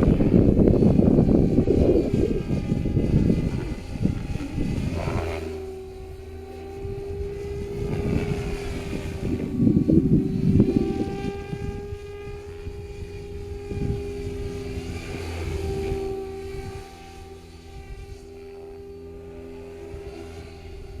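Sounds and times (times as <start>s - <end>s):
rc helicopter whine: 0.0s - 21.0s
wind buffeting microphone: 0.0s - 21.0s.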